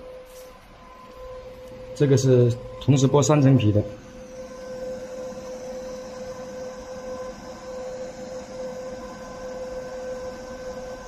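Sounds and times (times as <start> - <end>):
cable stripping machine humming: 0.0 - 11.0.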